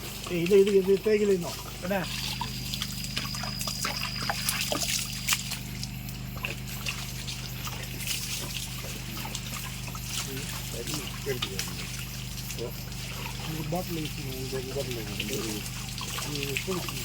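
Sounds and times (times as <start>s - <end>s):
liquid trickling and splashing: 0.0s - 17.0s
low electrical hum: 0.0s - 17.0s.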